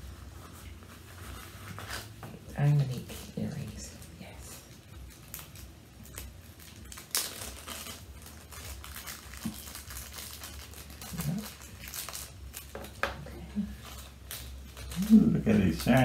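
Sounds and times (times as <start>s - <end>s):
gift wrapping crinkling: 0.0s - 16.0s.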